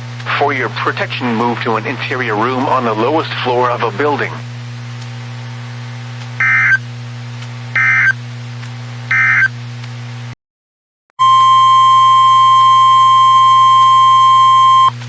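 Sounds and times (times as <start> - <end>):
low receiver hum: 0.0 - 10.4, 11.2 - 15.0.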